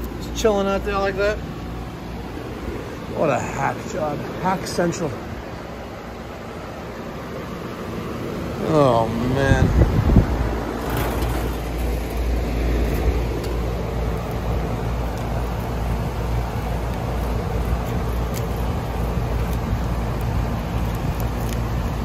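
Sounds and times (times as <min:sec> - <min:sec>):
compressor hum: 0:00.0 - 0:22.0
fan rushing: 0:00.0 - 0:22.0.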